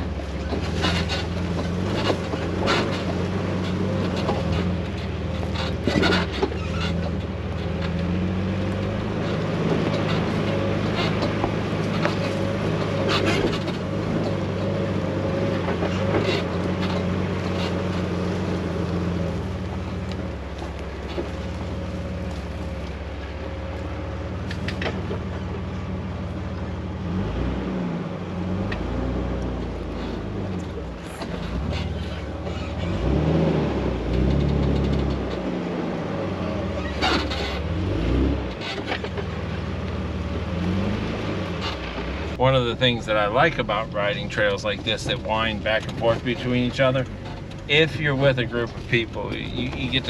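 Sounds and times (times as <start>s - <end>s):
knocks and rattles: 0.0s - 26.7s, 29.6s - 33.2s, 34.0s - 39.8s, 40.6s - 50.0s
vehicle engine running: 0.0s - 50.0s.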